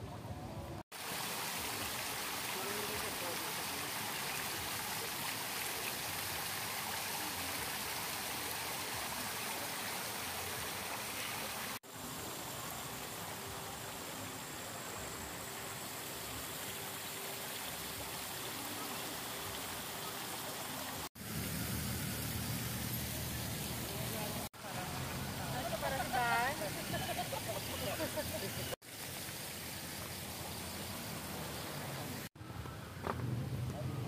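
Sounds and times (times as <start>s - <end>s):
fountain water splashing into basin: 0.9s - 32.3s.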